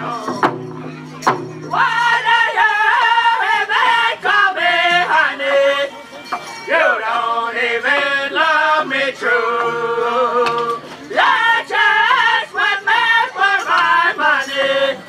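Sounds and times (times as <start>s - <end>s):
men singing together: 1.7s - 5.9s, 6.6s - 15.0s.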